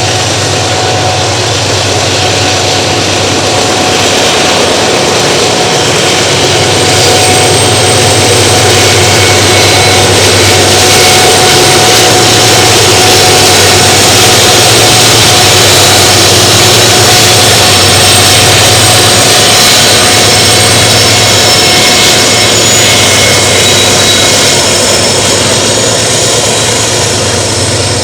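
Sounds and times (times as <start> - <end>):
high steady whine: 0.0 - 28.0
locomotive engine din: 0.0 - 28.0.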